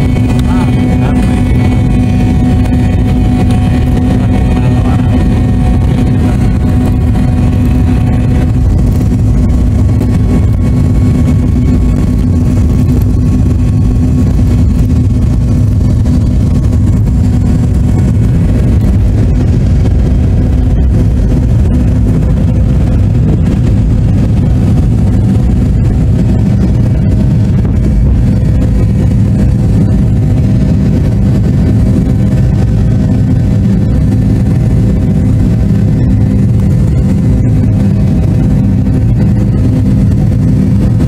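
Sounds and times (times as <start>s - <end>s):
jet engines rumbling in cabin: 0.0s - 41.0s.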